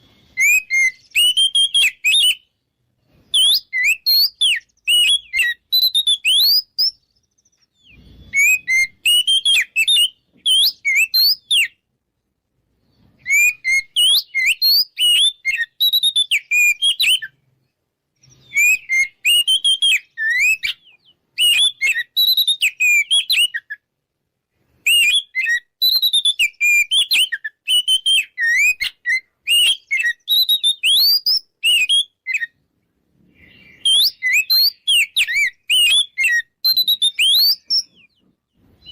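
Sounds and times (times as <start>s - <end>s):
bird singing whistles and chirps: 0.0s - 11.9s, 12.8s - 23.9s, 24.8s - 38.9s.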